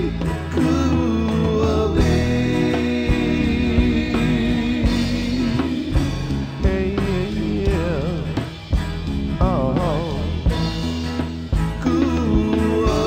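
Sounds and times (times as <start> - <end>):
song with steady beat: 0.0 - 13.0.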